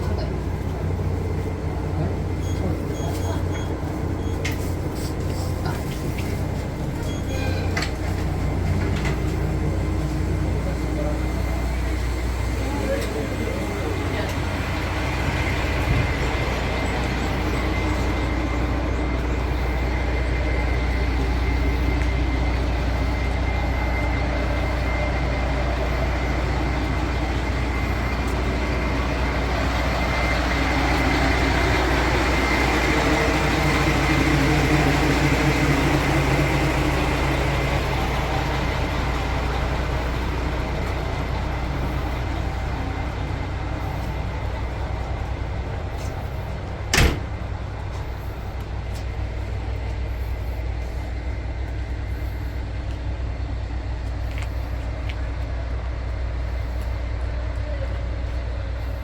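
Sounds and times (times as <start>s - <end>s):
rail running noise: 0.0s - 59.0s
railcar engine drone: 0.0s - 59.0s
thin steady whine: 0.0s - 59.0s.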